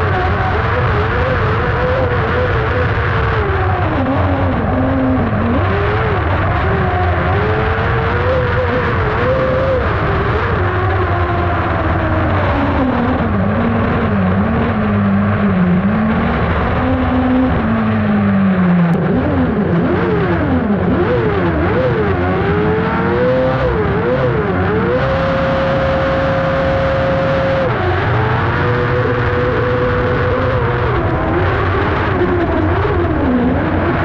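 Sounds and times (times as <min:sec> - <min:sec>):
kart engine revving: 0:00.0 - 0:34.0.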